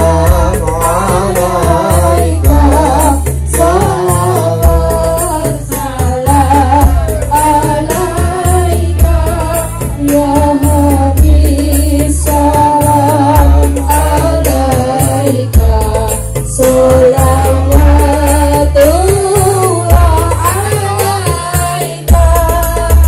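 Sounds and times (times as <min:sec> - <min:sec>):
steady bass line: 0:00.0 - 0:23.0
woman singing: 0:00.0 - 0:23.0.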